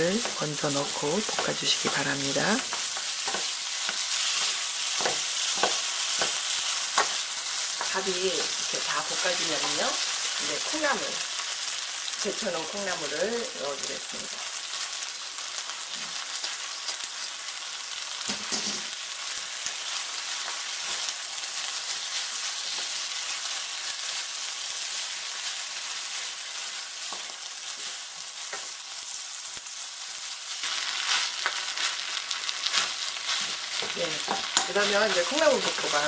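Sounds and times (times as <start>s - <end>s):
fried rice sizzling in a pan: 0.0s - 36.0s.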